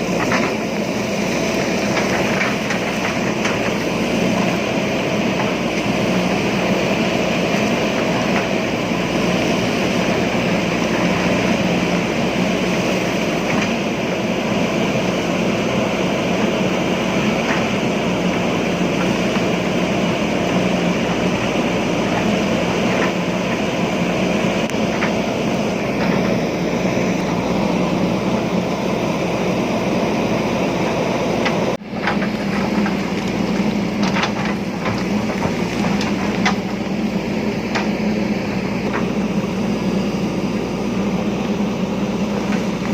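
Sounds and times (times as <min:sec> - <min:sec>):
diesel engine running under load: 0:00.0 - 0:42.9.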